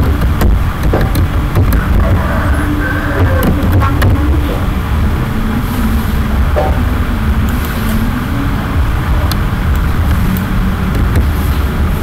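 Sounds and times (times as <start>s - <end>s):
loud low rumbling: 0.0s - 12.0s.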